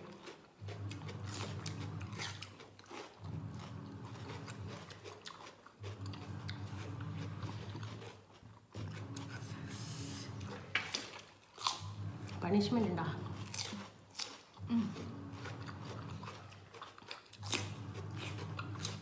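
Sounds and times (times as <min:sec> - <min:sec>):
cucumber crunching: 0:00.0 - 0:09.4, 0:10.8 - 0:12.0, 0:13.3 - 0:19.0.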